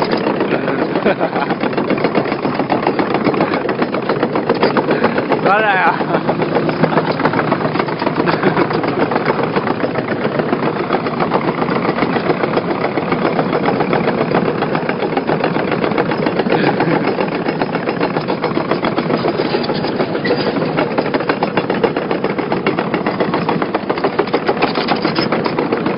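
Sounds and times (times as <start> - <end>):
dense fast rattle: 0.0 - 25.9
excavator diesel engine running: 0.0 - 25.9.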